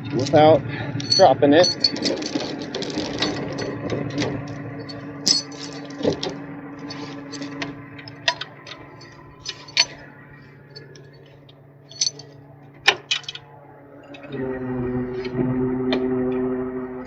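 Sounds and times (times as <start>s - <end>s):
steel chain clinking: 0.0s - 14.2s
engine hum: 0.0s - 17.0s.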